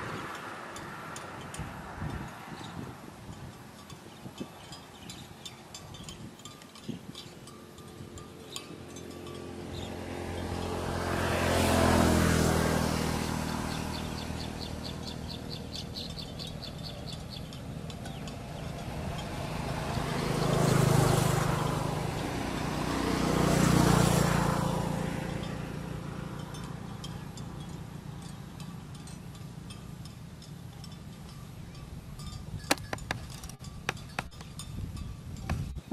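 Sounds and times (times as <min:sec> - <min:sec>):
vehicles passing by: 0:00.0 - 0:35.9.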